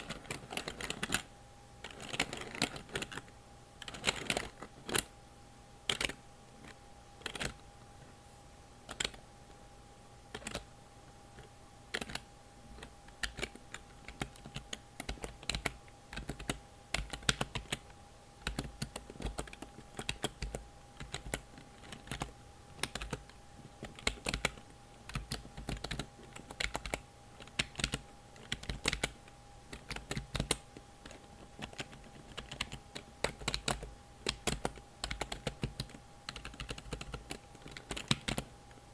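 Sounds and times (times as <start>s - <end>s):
computer keyboard typing: 0.0s - 5.1s, 5.9s - 6.2s, 7.2s - 7.6s, 8.9s - 9.2s, 10.3s - 10.7s, 11.4s - 12.2s, 12.8s - 38.6s
faint steady hum: 0.0s - 38.9s.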